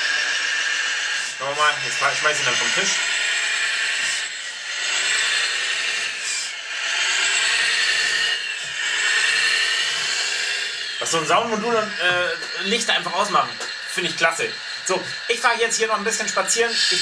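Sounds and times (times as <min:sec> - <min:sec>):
electric drive whir: 0:00.0 - 0:17.0
simulated engine revving: 0:00.0 - 0:17.0.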